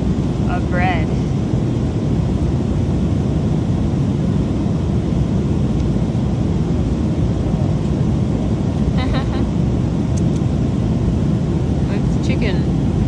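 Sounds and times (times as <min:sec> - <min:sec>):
jet airliner cabin roar: 0:00.0 - 0:13.0.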